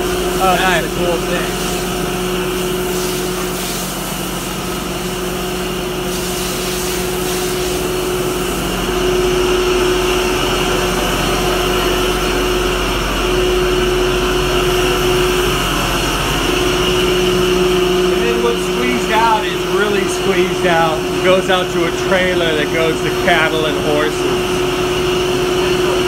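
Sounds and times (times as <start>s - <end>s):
mill machinery humming: 0.0s - 26.0s.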